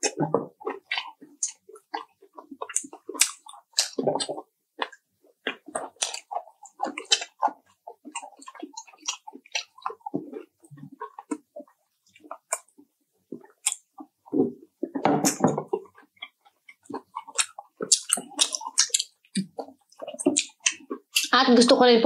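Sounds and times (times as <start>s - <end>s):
wet mouth smacks: 0.0s - 11.4s, 12.1s - 12.7s, 13.4s - 13.8s, 15.2s - 21.3s
person chewing crispy chicken: 0.0s - 21.3s.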